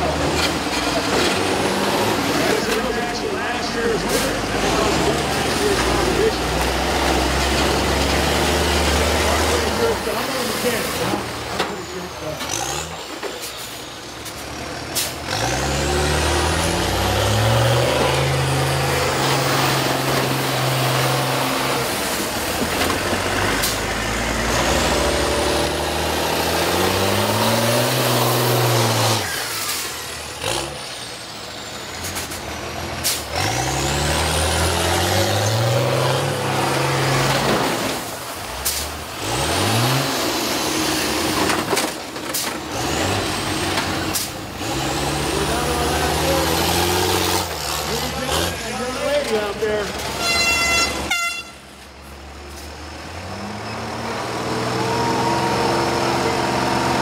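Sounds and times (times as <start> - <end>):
bus engines revving: 0.0 - 57.0
vehicles crashing: 0.0 - 57.0.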